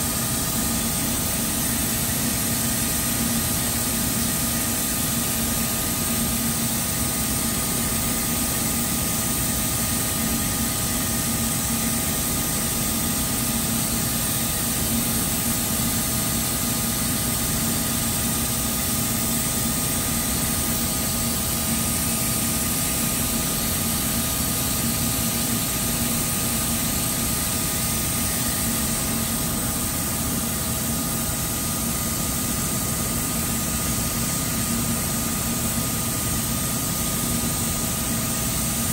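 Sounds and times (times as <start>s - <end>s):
ventilation hum and air rush: 0.0s - 38.9s.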